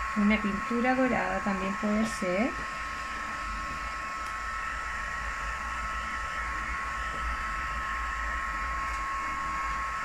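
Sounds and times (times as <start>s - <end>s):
heat gun blowing air with high whine: 0.0s - 10.0s.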